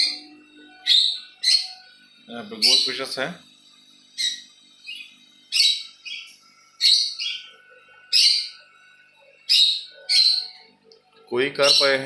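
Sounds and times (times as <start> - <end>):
small birds chirping: 0.0 - 1.8, 2.4 - 12.0.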